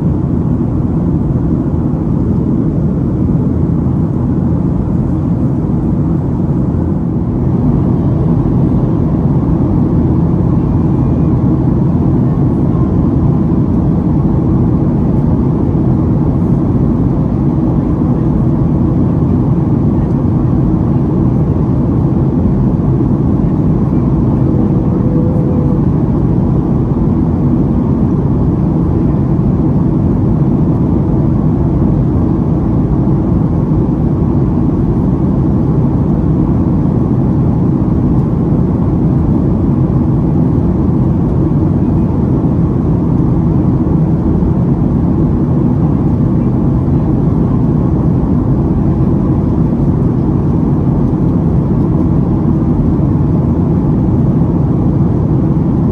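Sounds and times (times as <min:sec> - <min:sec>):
air rushing along fuselage: 0:00.0 - 0:55.9
jet engine drone: 0:00.0 - 0:55.9.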